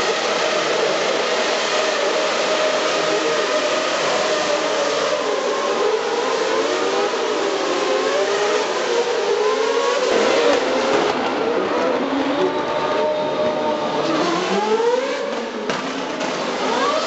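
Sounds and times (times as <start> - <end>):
race cars accelerating: 0.0 - 17.0.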